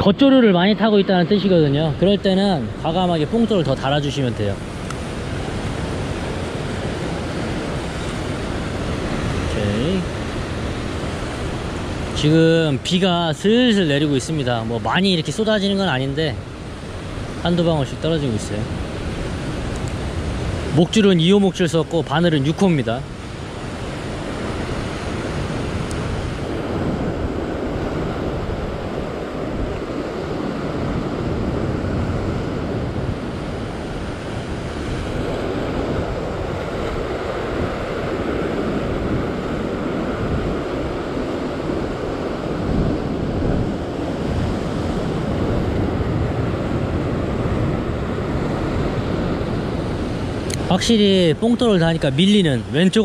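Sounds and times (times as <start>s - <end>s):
rough sea breaking over rocks: 0.0s - 53.0s
wind buffeting microphone: 0.0s - 53.0s.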